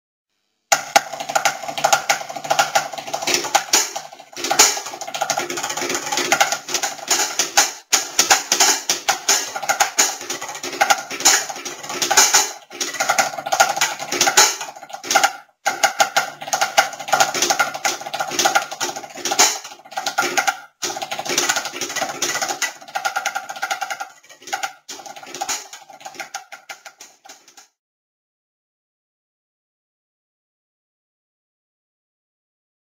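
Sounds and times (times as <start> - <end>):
drum kit groove: 0.7 - 27.7
pitched music: 0.7 - 27.7.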